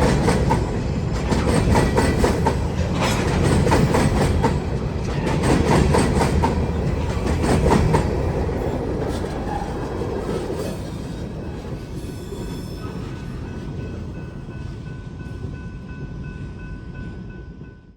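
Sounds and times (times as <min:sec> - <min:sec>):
train wheels clacking: 0:00.0 - 0:15.6.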